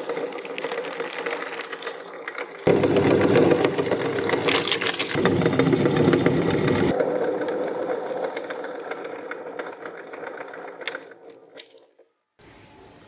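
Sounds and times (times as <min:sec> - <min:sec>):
meat grinder grinding cookies: 0:00.0 - 0:11.8.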